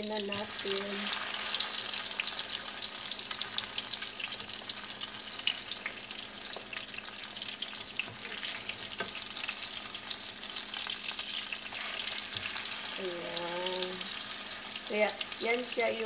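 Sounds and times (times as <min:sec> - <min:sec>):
omelette sizzling in oil: 0:00.0 - 0:16.0.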